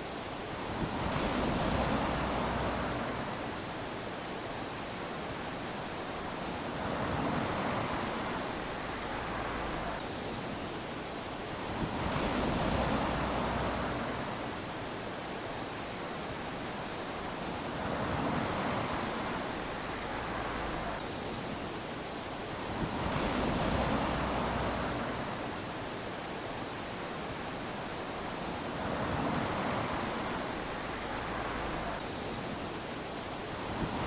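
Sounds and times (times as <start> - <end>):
small waves lapping on sand: 0.0 - 34.0.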